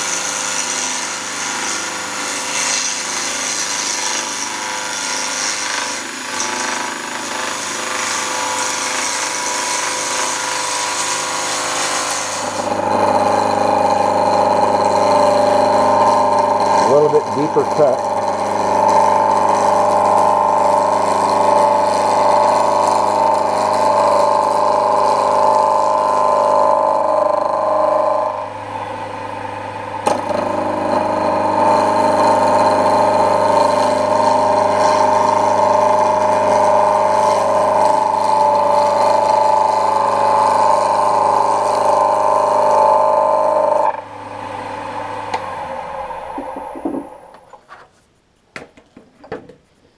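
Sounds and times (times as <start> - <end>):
gouge cutting wood on lathe: 0.0 - 28.6, 30.0 - 47.4
lathe motor hum: 0.0 - 47.4.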